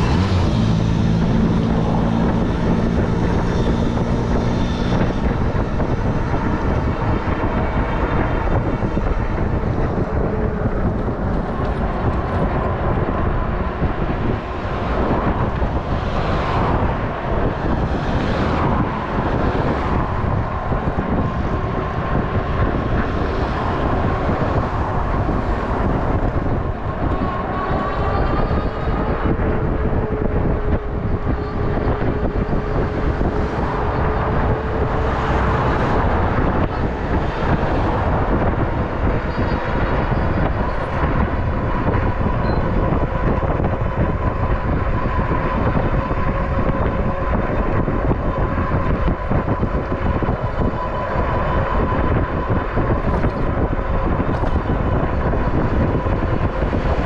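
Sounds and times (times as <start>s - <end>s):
road noise: 0.0s - 57.0s
wind rushing over microphone: 0.0s - 57.0s.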